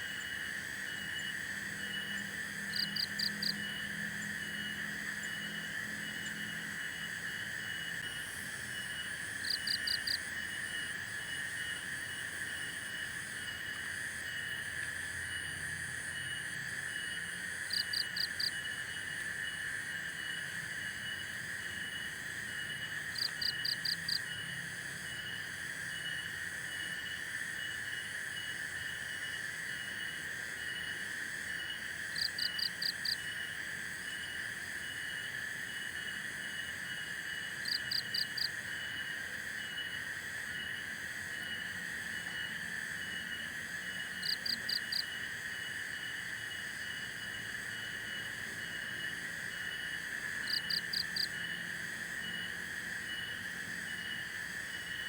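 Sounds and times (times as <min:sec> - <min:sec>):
insects and frogs chorus: 0:00.0 - 0:55.0.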